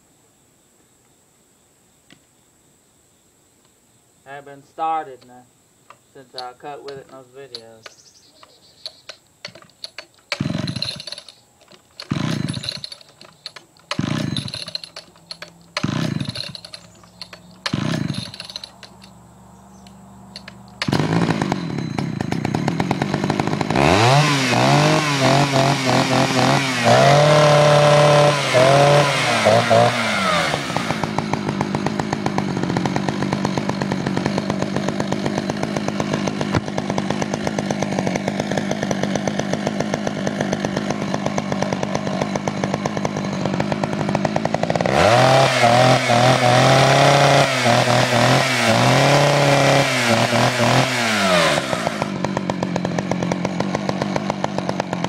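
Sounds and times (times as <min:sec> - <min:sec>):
chainsaw starter cord pulls: 0:05.1 - 0:19.2, 0:19.8 - 0:55.0
chainsaw engine revving and idling: 0:06.2 - 0:55.0.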